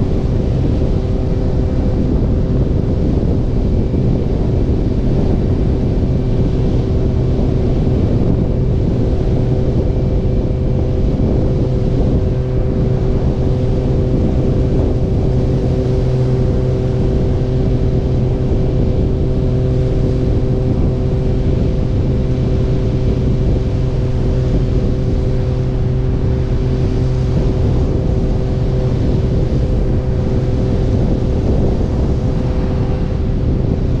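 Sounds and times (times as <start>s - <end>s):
motorcycle engine humming: 0.0s - 34.0s
road and wind noise: 0.0s - 34.0s.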